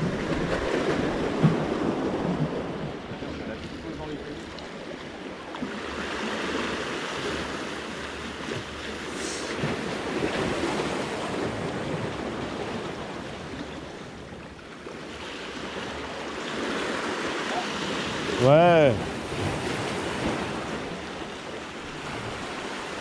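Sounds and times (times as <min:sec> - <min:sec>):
waves breaking on rocks: 0:00.0 - 0:23.0.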